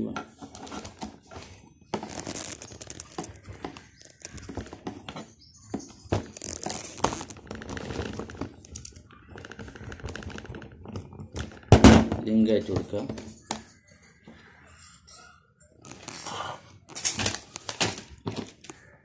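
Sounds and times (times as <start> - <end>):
wires clicking and scraping: 0.1 - 11.7, 13.3 - 19.0.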